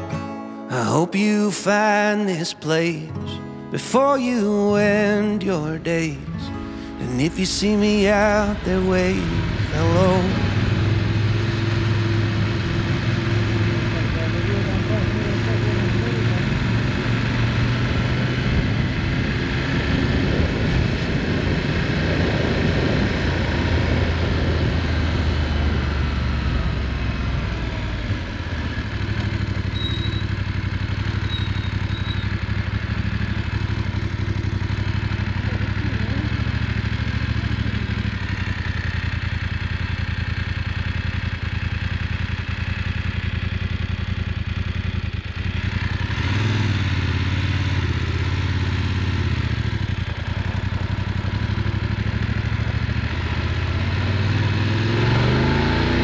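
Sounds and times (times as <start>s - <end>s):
motorcycle engine running: 0.0s - 56.0s
wind and road noise: 7.8s - 56.0s.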